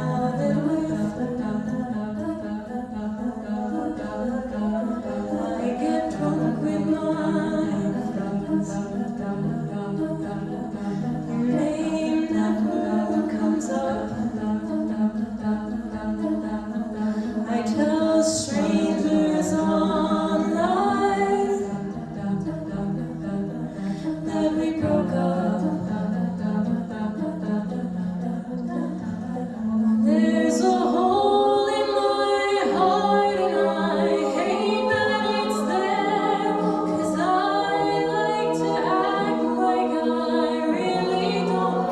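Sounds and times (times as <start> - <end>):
lead vocal singing: 0.0 - 41.9
vocal group harmonizing: 0.0 - 41.9.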